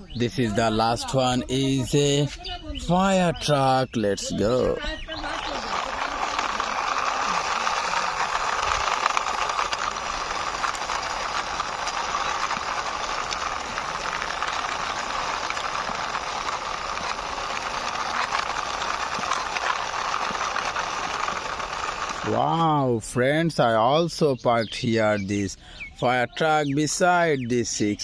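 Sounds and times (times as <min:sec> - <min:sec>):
toy truck wheels rolling and rattling: 0:00.0 - 0:02.3, 0:02.9 - 0:24.2, 0:24.8 - 0:28.0.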